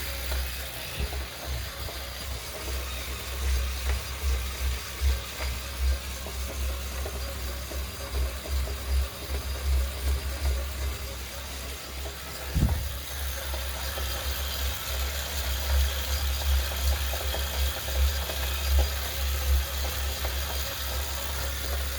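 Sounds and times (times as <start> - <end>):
bike trainer running: 0.0 - 21.9.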